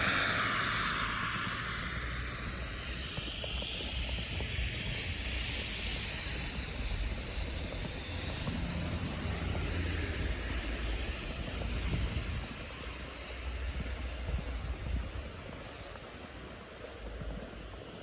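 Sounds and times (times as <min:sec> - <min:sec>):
steady hiss: 0:00.0 - 0:18.0
wind rumble on microphone: 0:00.0 - 0:18.0.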